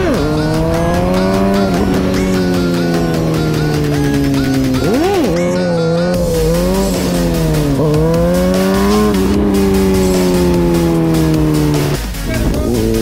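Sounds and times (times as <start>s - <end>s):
background music with a beat: 0.0s - 13.0s
motorcycle engine revving: 0.0s - 13.0s.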